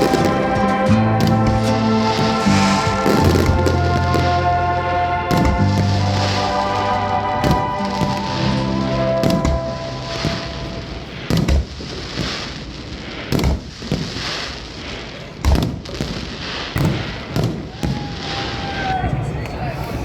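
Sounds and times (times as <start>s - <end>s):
continuous noisy haze: 0.0s - 20.0s
fireworks bangs: 0.0s - 20.0s.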